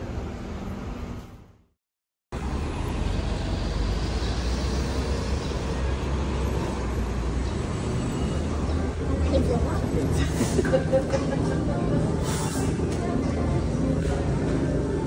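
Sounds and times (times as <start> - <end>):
rumble of passing cars: 2.4 - 15.0.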